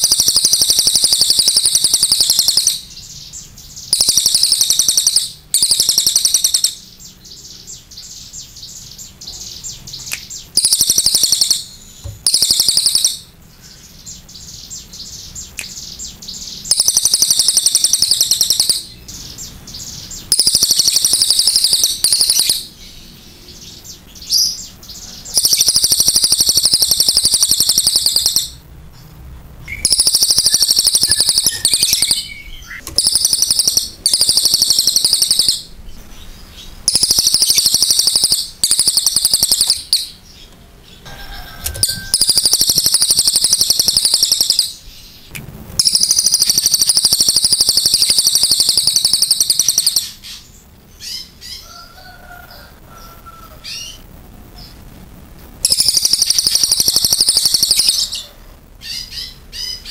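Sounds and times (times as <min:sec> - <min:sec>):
bird singing rapid high notes: 0:00.0 - 0:28.7, 0:29.7 - 0:40.5, 0:41.8 - 0:51.7, 0:55.6 - 0:58.2.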